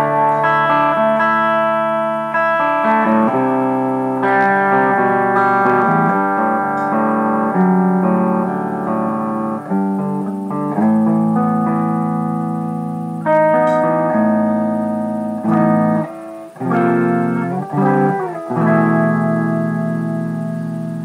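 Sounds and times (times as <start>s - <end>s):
clean electric guitar: 0.0s - 21.0s.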